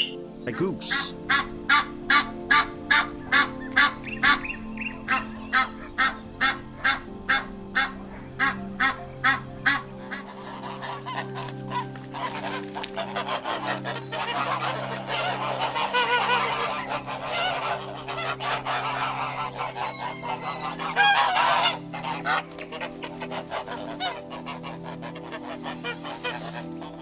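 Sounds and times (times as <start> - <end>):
geese honking: 0.0 - 27.0.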